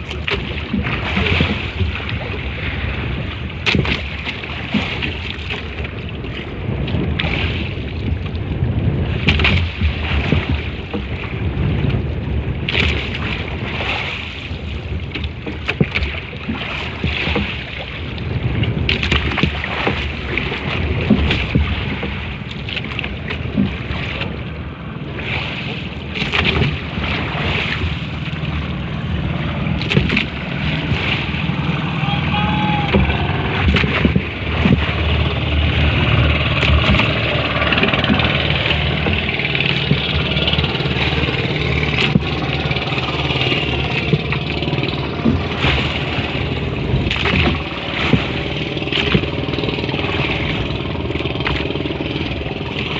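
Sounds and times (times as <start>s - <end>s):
water sloshing against boat: 0.0s - 52.9s
wind buffeting microphone: 0.0s - 52.9s.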